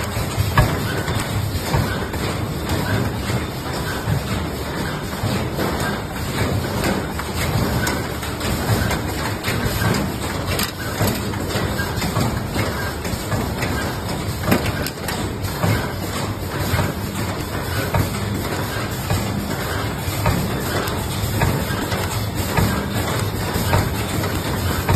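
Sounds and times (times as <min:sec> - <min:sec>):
machine clicks and knocks: 0:00.0 - 0:24.9
machine mechanical hum: 0:00.0 - 0:24.9.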